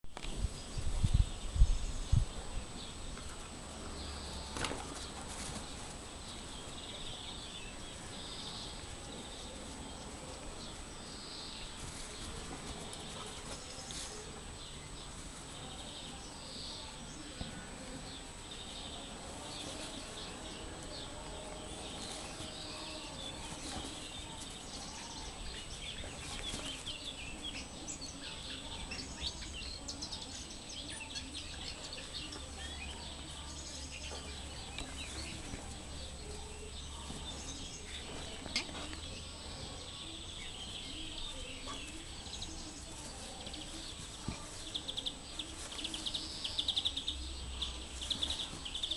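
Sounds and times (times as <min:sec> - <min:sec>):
small birds chirping: 0:00.1 - 0:48.9.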